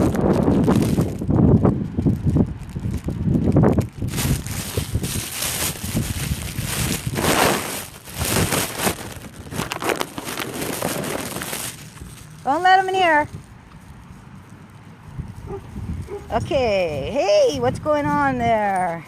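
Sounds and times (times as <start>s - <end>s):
rustling on phone microphone: 0.0s - 17.1s.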